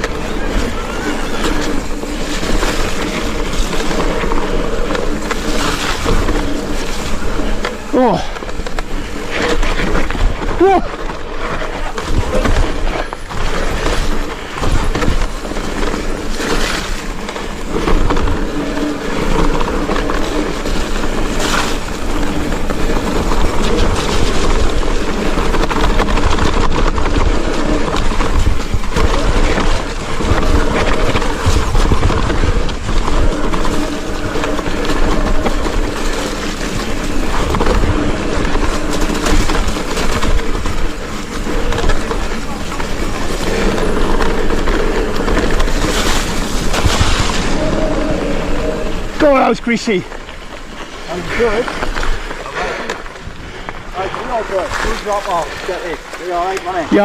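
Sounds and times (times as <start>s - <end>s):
wind on microphone: 0.0s - 49.2s
bike tyre and rattle noise: 0.0s - 57.0s.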